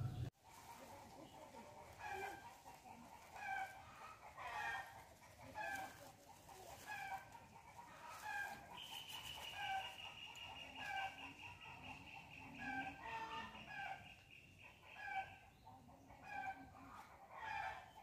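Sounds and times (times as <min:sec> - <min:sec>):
chicken clucking: 0:00.0 - 0:18.0.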